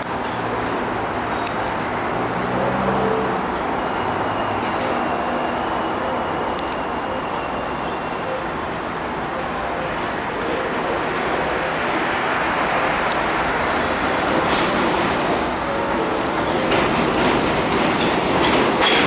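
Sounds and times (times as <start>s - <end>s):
train wheels rolling on rails: 0.0s - 19.0s.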